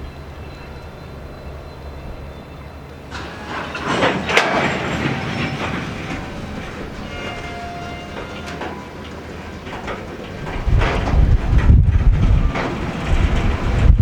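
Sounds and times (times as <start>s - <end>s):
train engine rumble: 0.0s - 14.0s
wheels on rails rushing: 0.0s - 14.0s.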